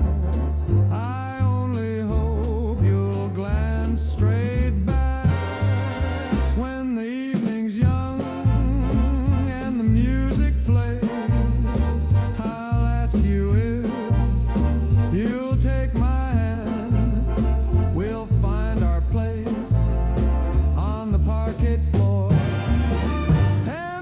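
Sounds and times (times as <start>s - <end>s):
swing dance band music: 0.0s - 24.0s.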